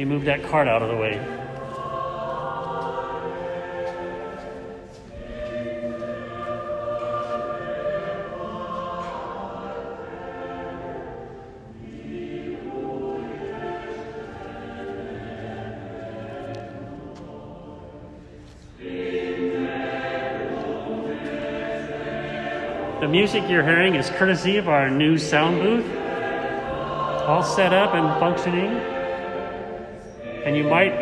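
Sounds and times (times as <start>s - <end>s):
choir singing over sound system: 0.0s - 31.0s.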